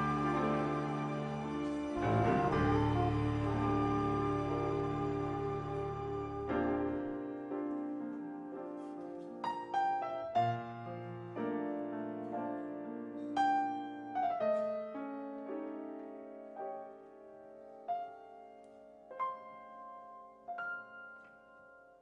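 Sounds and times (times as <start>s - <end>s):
grand piano slow ballad: 0.0s - 22.0s.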